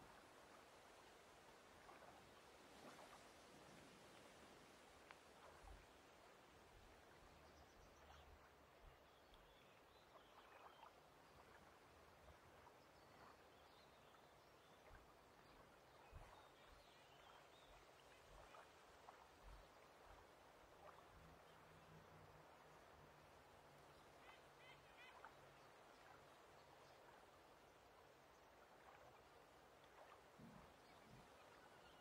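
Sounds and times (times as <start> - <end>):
soft water hiss: 0.0 - 32.0.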